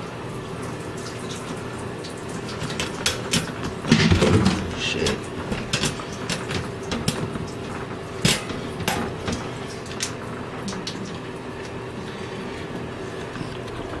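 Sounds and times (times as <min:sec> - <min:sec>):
room hiss and hum: 0:00.0 - 0:14.0.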